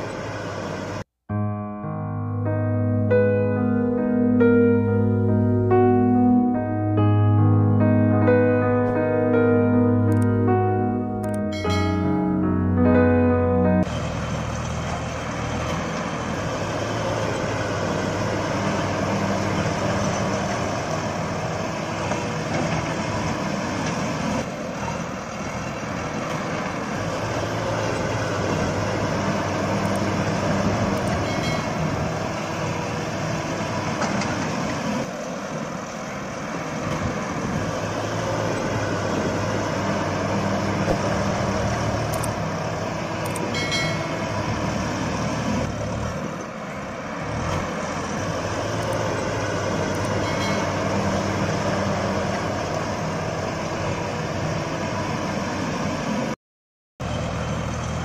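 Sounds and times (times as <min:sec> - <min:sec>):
heavy vehicle engine running: 0:00.0 - 0:01.2, 0:03.2 - 0:56.4, 0:57.0 - 0:58.0.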